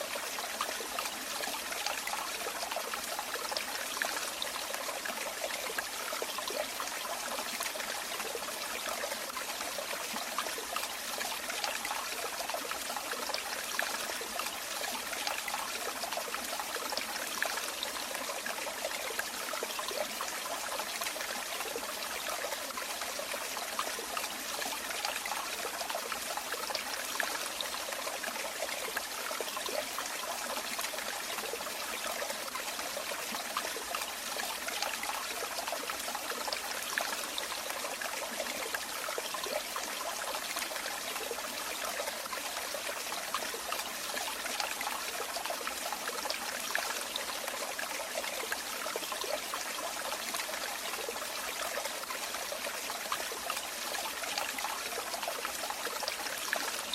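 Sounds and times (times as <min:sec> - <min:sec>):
water trickling and splashing: 0:00.0 - 0:56.9.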